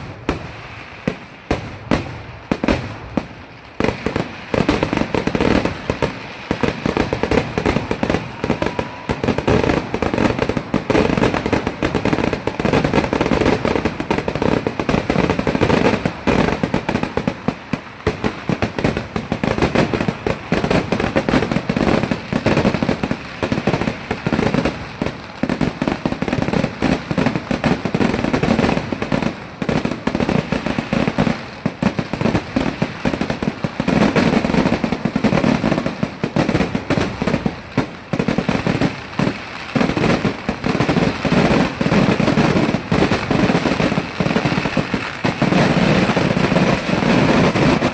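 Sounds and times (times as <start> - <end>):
firecracker explosions barrage: 0.0 - 47.9.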